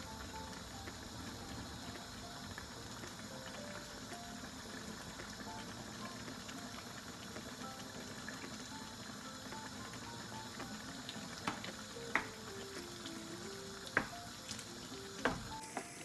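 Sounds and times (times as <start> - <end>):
soft background music melody: 0.0 - 16.0
vegetables sizzling in frying pan: 0.0 - 16.0.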